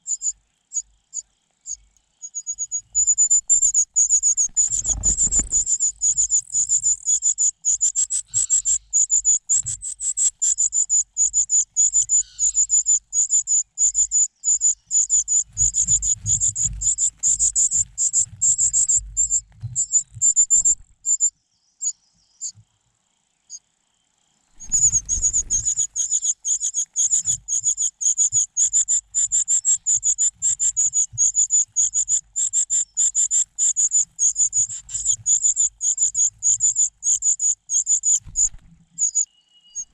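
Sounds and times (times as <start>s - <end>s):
nestling birds chirping: 0.0s - 22.6s, 24.6s - 39.9s.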